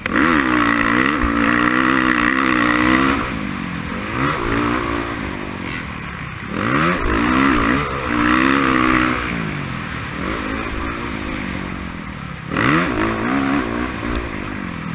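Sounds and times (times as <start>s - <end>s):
racing motorcycle engine revving: 0.0s - 14.9s.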